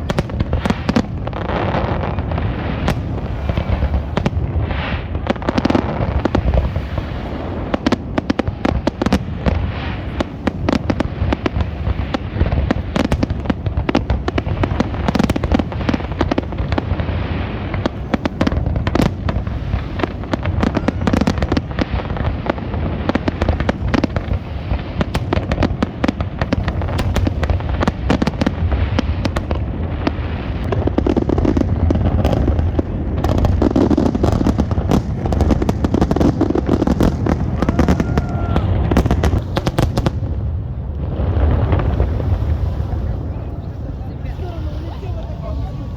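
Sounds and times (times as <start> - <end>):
rapid crackling and popping: 0.0 - 45.9.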